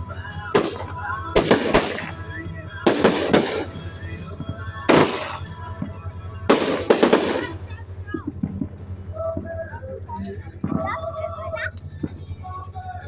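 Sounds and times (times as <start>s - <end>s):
music playing: 0.0s - 13.0s
fireworks bangs: 0.3s - 11.2s.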